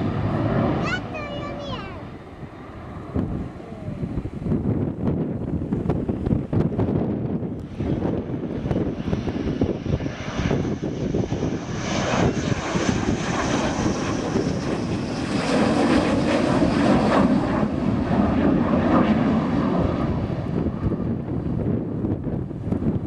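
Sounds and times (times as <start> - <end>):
jet engine rush: 0.0 - 23.0.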